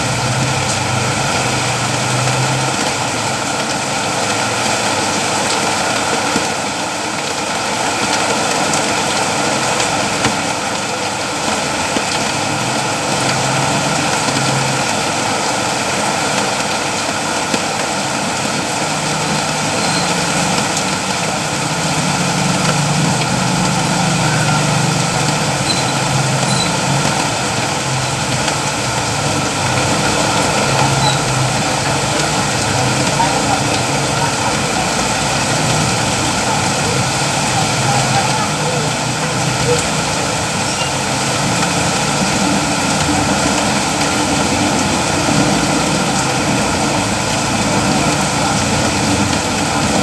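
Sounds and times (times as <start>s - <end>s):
heavy rainfall: 0.0s - 50.0s.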